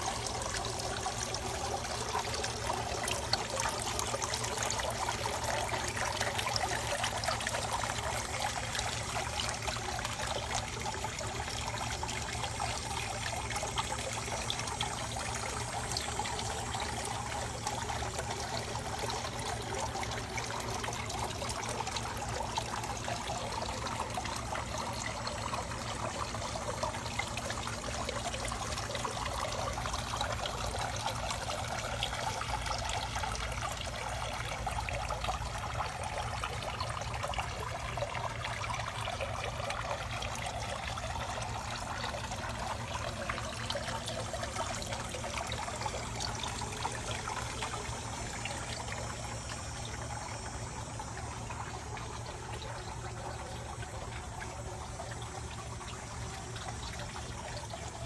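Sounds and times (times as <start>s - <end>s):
fountain water trickling: 0.0s - 58.0s.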